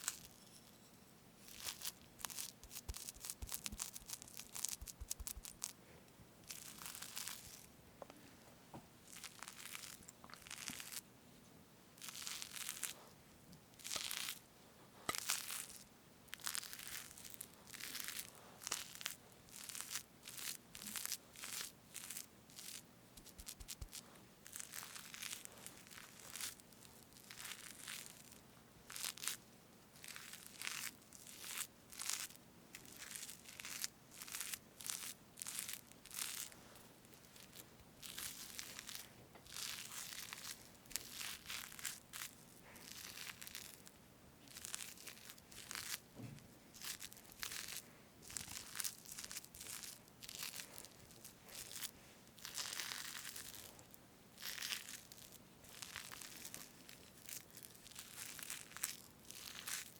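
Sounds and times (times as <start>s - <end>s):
soft cream squishing: 0.0s - 0.8s, 1.4s - 59.9s.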